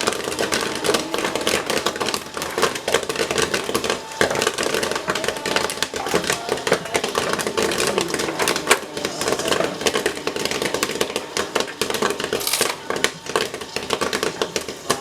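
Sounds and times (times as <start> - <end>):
popcorn machine hum: 0.0 - 15.0
popcorn popping: 0.0 - 15.0.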